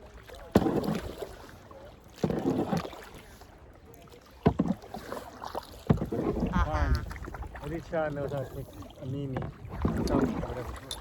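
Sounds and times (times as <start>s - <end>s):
paddle strokes in water: 0.0s - 11.0s.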